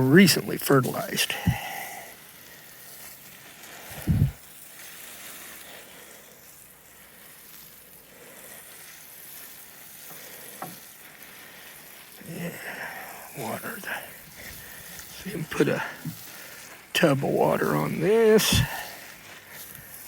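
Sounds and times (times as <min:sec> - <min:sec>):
water sprinkling from watering can: 0:00.0 - 0:20.0.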